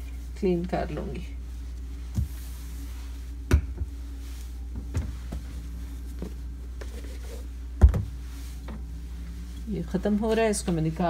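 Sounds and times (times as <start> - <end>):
low refrigerator hum: 0.0 - 11.0.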